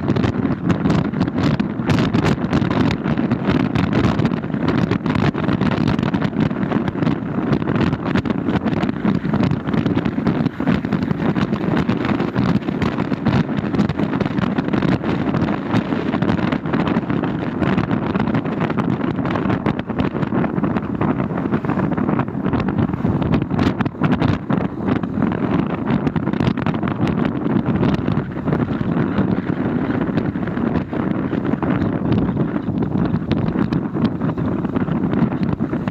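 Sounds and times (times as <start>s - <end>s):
steady low rumble: 0.0s - 35.9s
wind buffeting microphone: 0.0s - 35.9s.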